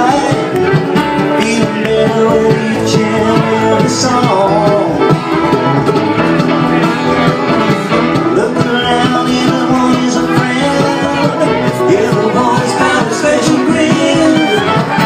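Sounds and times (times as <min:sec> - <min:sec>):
bluegrass string band playing: 0:00.0 - 0:15.0.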